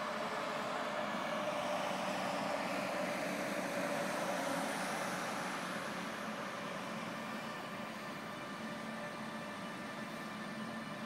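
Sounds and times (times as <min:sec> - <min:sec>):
electric locomotive running: 0:00.0 - 0:11.0.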